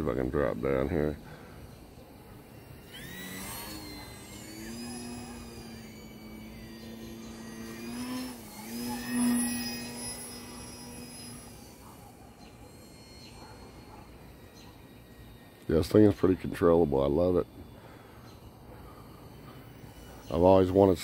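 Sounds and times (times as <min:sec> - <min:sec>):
model plane motor buzzing: 0:00.0 - 0:21.0.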